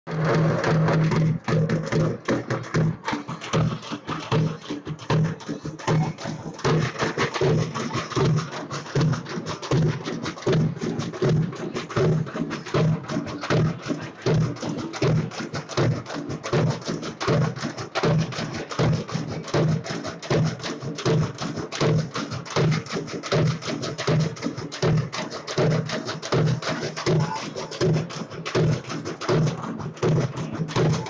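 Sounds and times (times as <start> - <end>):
frame drums beaten: 0.1 - 31.0.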